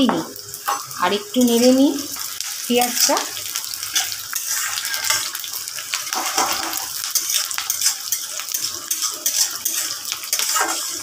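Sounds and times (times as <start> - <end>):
onions sizzling in oil: 0.0 - 11.0
spatula scraping pan: 0.6 - 1.9, 2.8 - 11.0.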